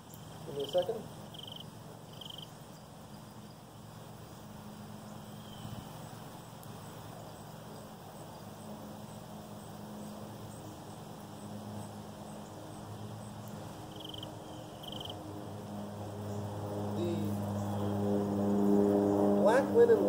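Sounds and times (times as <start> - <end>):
insect chirping: 0.0 - 16.5
distant engine droning: 0.0 - 20.0.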